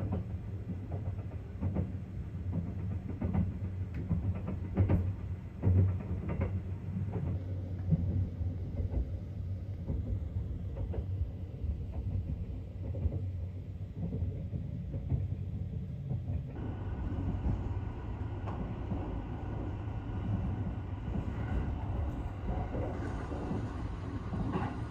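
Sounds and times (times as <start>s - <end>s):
train rumbling on rails: 0.0s - 24.9s.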